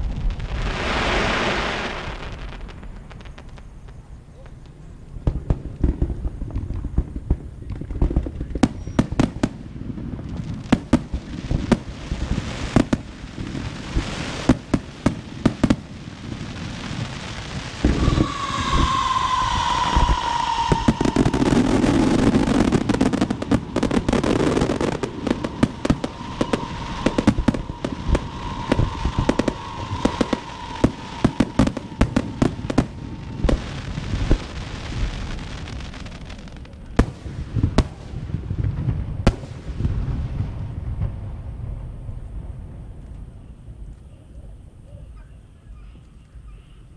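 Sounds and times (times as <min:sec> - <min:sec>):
firecrackers banging: 0:00.0 - 0:41.4
fireworks crackling: 0:00.0 - 0:44.1
whistling firework: 0:00.0 - 0:46.9.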